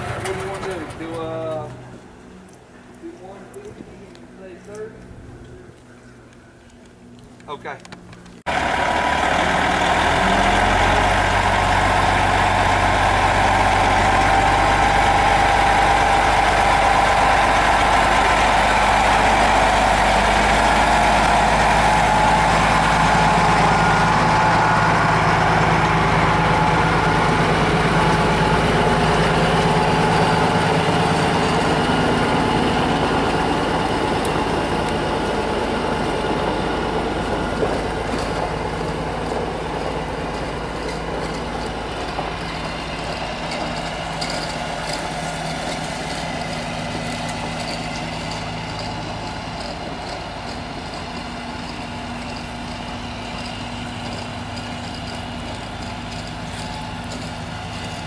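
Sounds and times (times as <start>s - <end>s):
truck diesel engine running: 0.0s - 3.4s, 8.2s - 58.0s.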